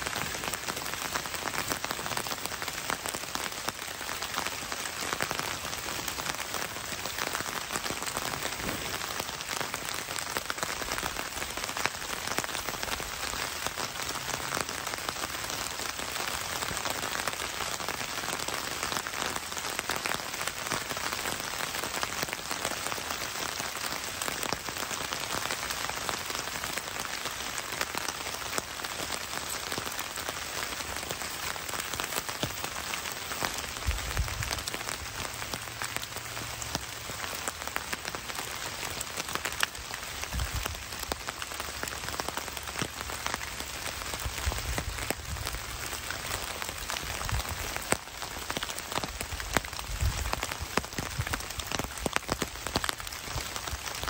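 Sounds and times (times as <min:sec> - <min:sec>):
rain pattering on dead leaves: 0:00.0 - 0:54.0.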